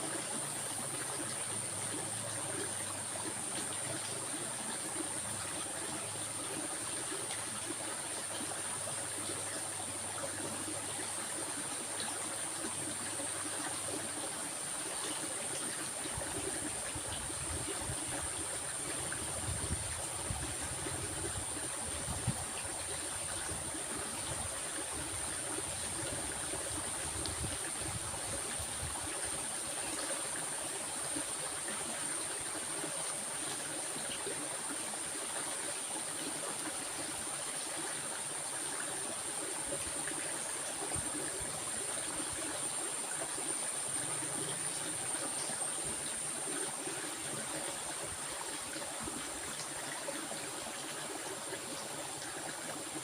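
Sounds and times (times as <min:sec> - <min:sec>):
stream trickling: 0:00.0 - 0:53.0.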